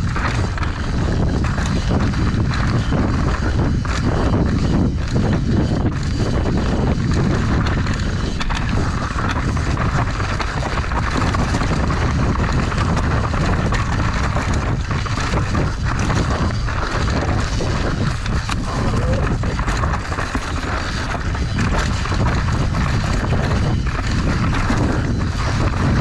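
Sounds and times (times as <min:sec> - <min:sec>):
bike knocking and rattling: 0:00.0 - 0:26.0
bike tyres rolling over dirt: 0:00.0 - 0:26.0
wind buffeting microphone: 0:00.0 - 0:26.0.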